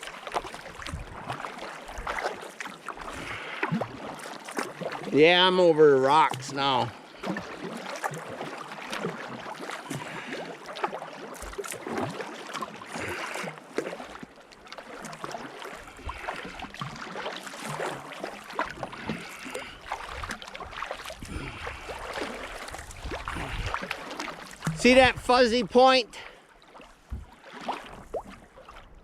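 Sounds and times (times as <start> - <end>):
paddle splashing in water: 0.0 - 29.0.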